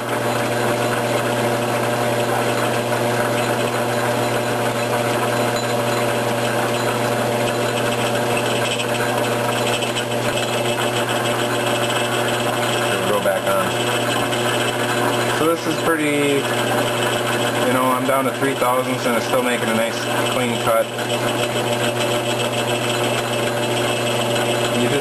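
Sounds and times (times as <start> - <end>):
metal lathe humming and whining: 0.0 - 25.0.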